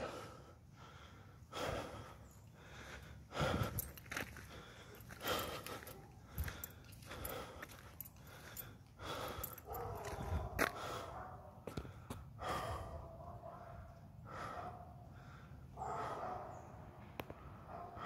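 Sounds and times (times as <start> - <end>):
person breathing heavily: 0.0 - 16.4.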